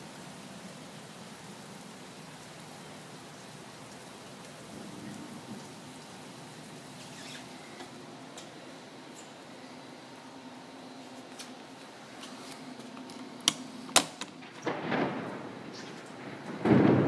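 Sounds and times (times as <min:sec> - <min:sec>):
rain falling: 0:00.0 - 0:17.0
raindrops ticking: 0:00.0 - 0:17.0.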